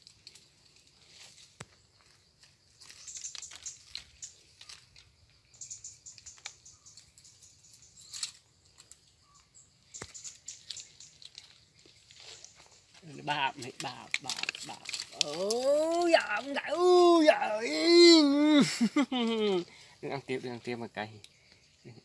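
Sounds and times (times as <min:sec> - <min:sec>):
twigs clicking and snapping: 0:00.0 - 0:18.3
leaves and twigs rustling: 0:00.0 - 0:22.0.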